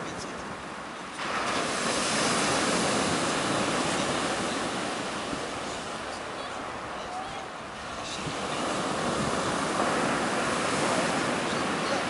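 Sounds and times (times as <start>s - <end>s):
surf on pebble beach: 0.0s - 12.0s.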